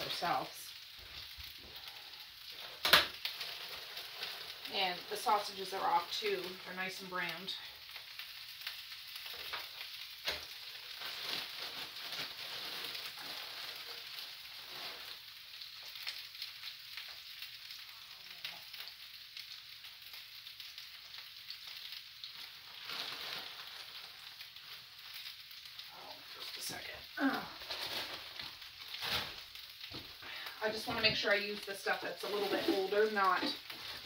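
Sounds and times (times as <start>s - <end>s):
plastic bag rustling: 0.0s - 17.9s, 20.6s - 34.0s
food sizzling in frying pans: 0.0s - 34.0s.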